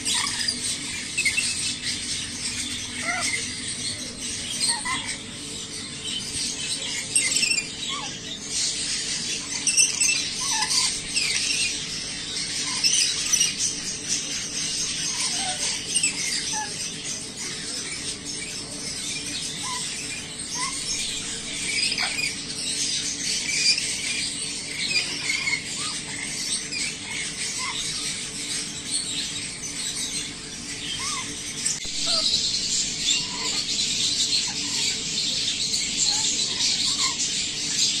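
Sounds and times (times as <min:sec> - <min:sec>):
lorikeets chattering: 0:00.0 - 0:38.0.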